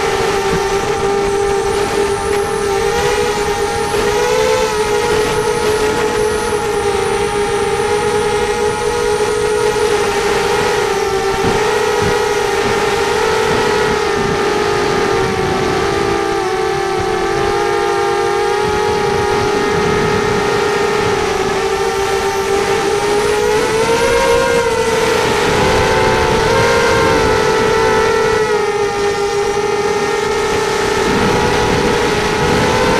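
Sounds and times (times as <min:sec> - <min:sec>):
quadcopter motors whining: 0:00.0 - 0:32.9.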